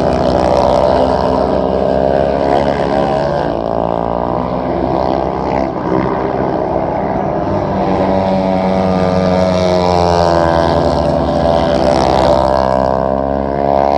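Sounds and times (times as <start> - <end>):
motorcycles racing at high revs: 0.0 - 13.9.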